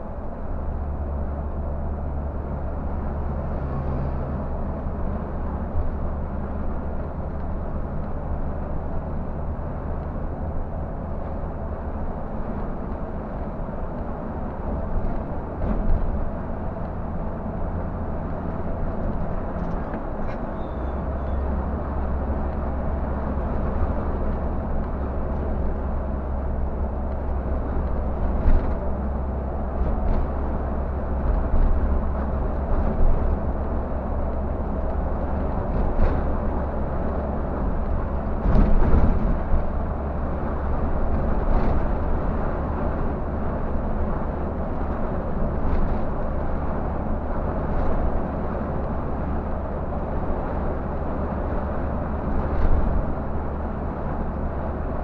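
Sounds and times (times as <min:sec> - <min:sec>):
coach engine and tyres droning: 0:00.0 - 0:55.0.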